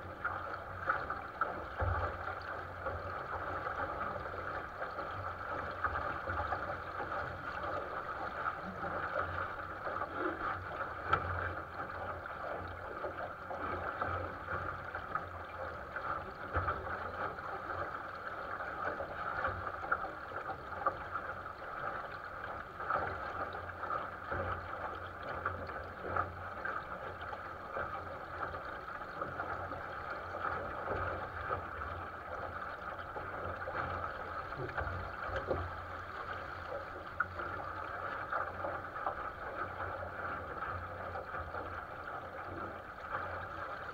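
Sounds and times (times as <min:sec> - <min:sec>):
water rushing along boat hull: 0:00.0 - 0:43.9.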